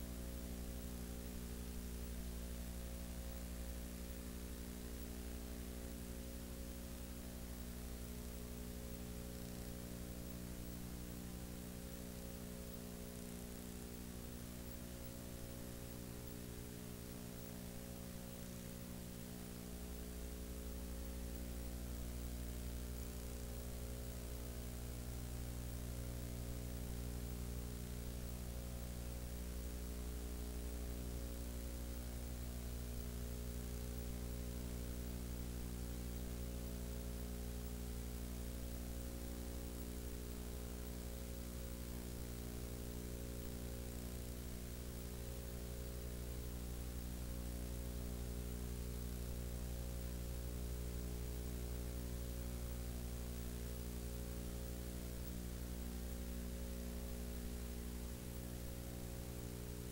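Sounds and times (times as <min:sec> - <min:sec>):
constant hiss: 0:00.0 - 0:59.9
steady electrical hum: 0:00.0 - 0:59.9.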